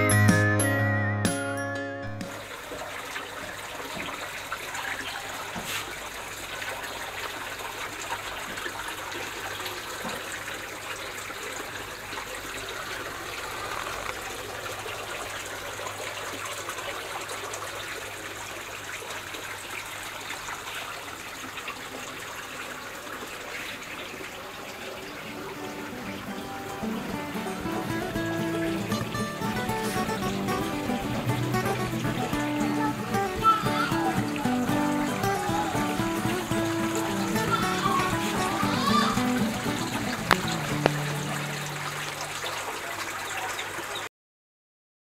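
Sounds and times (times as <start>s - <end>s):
water trickling and splashing: 2.2s - 44.1s.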